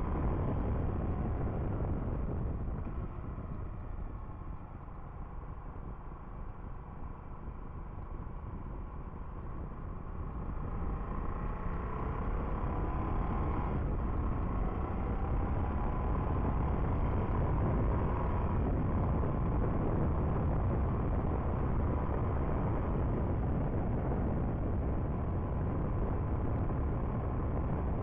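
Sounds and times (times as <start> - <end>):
wind rush on microphone: 0.0 - 28.0.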